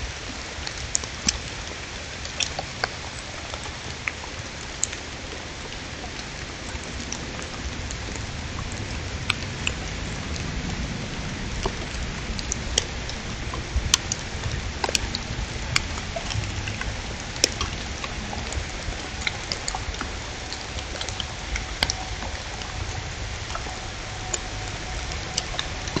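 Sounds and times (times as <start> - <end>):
light rain: 0.0 - 26.0.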